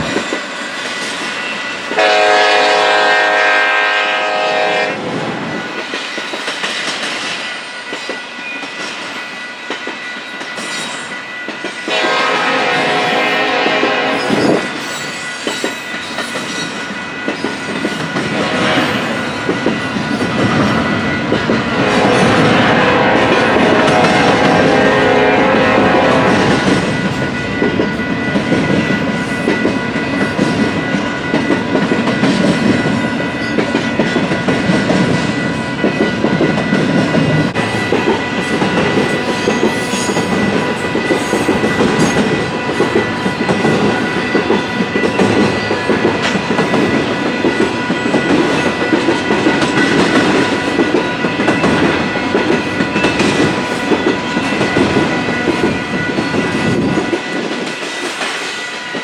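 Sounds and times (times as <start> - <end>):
freight train cars clattering: 0.0 - 59.0.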